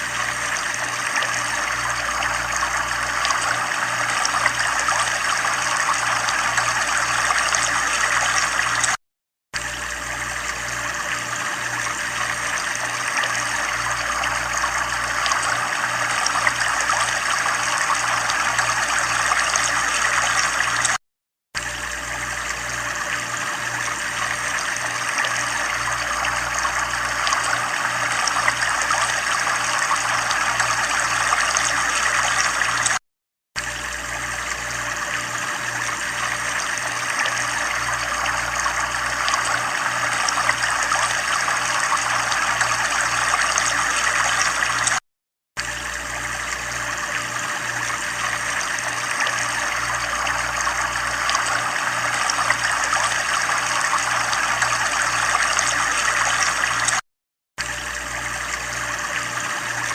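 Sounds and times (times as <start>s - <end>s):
low pulsing hum: 0.0s - 8.9s, 9.6s - 21.0s, 21.6s - 32.9s, 33.6s - 44.9s, 45.6s - 56.9s
water trickling: 0.0s - 9.0s, 9.6s - 21.0s, 21.6s - 33.0s, 33.6s - 45.0s, 45.6s - 57.0s.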